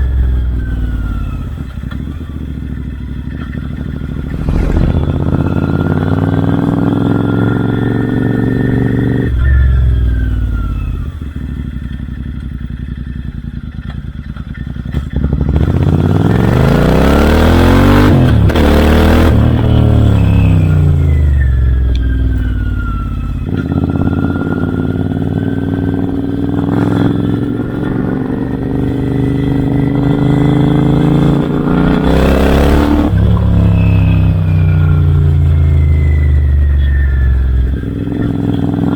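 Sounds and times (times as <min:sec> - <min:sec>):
motorcycle engine revving: 0:02.7 - 0:10.2, 0:13.2 - 0:38.9.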